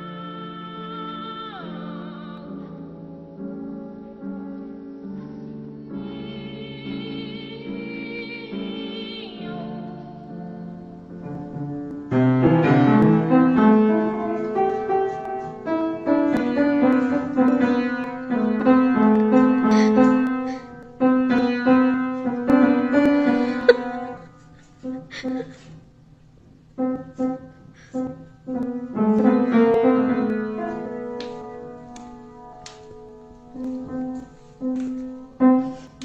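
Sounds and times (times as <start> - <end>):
piano notes and chords: 0.0 - 36.0.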